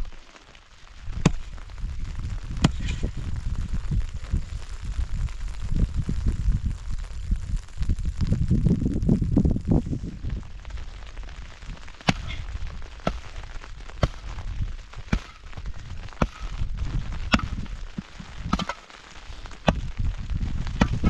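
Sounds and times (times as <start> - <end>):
low rumble: 1.0 - 18.6.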